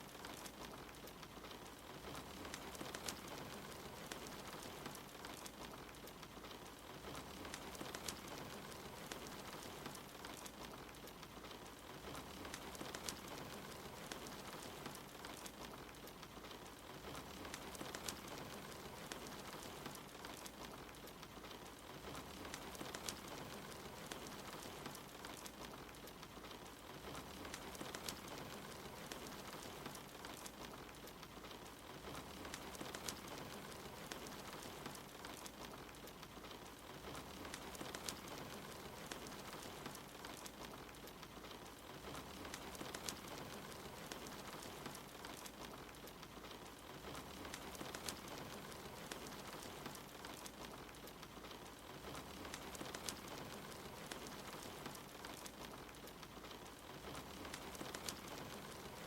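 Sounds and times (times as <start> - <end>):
steady rain: 0.0 - 59.0
wood fire crackling: 0.0 - 59.0.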